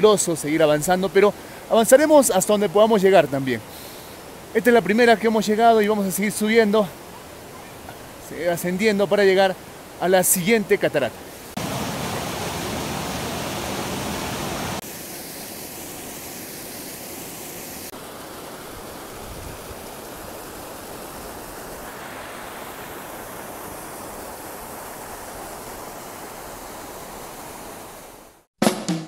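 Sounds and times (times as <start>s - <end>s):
waterfall rushing: 0.0s - 28.5s.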